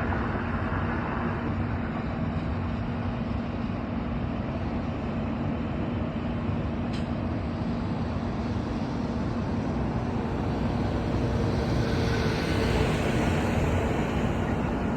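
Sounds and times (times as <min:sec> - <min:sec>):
freight cars rumbling on rails: 0:00.0 - 0:14.9.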